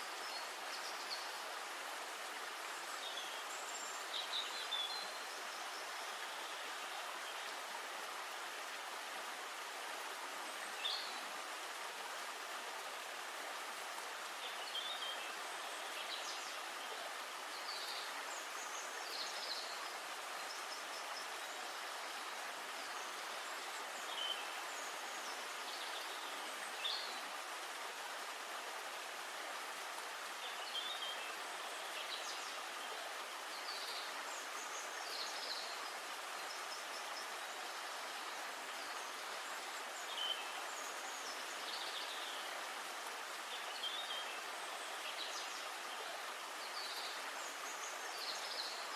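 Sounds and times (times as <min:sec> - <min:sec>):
forest ambient hiss: 0:00.0 - 0:48.9.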